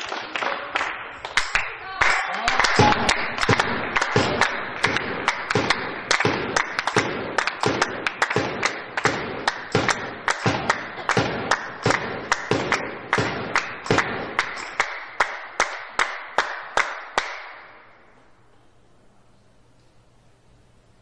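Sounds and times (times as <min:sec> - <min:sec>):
spectators clapping in rhythm: 0:00.0 - 0:17.9
low room hum: 0:00.2 - 0:21.0.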